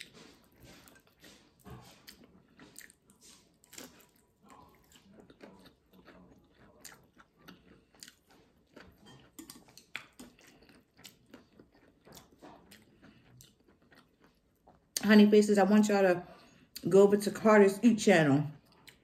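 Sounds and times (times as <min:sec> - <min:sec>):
person chewing crunchy food: 0:00.0 - 0:15.1, 0:18.6 - 0:19.0.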